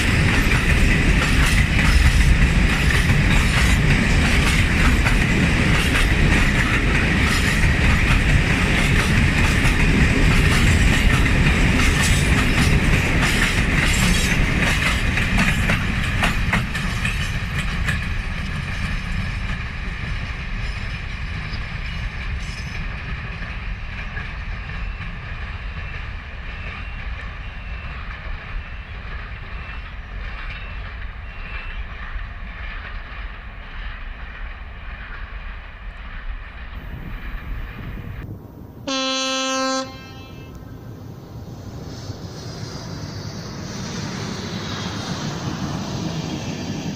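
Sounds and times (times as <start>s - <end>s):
train wheels clattering on rails: 0.0s - 38.3s.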